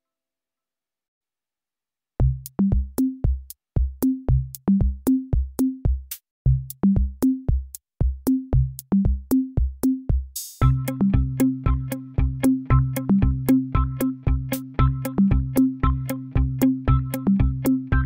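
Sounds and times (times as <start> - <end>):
electronic drum-machine beat: 2.2 - 18.0.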